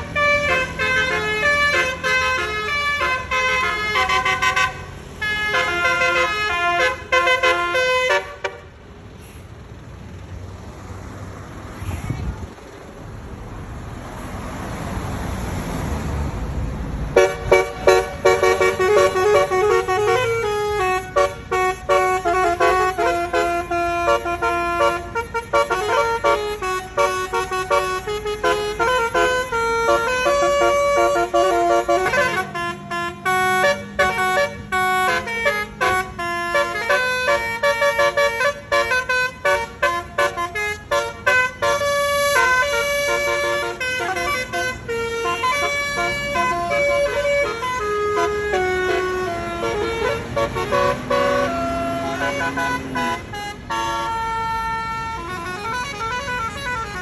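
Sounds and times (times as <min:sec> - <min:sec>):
multi-tone bus horn melody: 0:00.0 - 0:09.3, 0:17.0 - 0:57.0.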